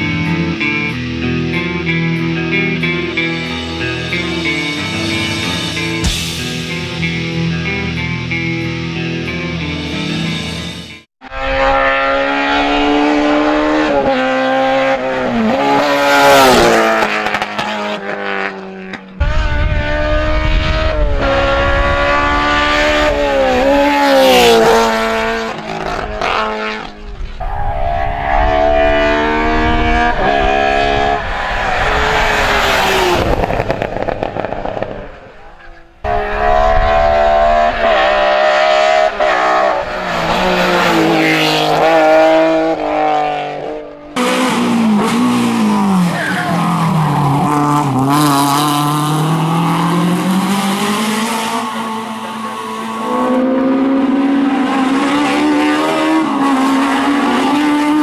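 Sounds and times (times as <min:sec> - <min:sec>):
race car engines revving high: 0:11.3 - 0:58.0.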